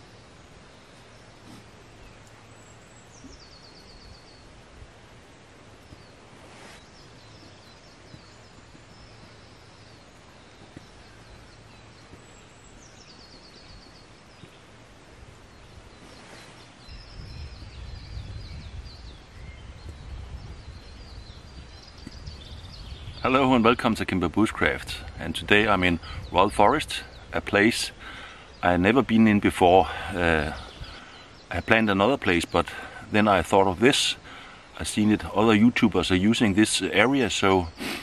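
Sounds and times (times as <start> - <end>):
birds calling faintly: 0.0 - 38.0.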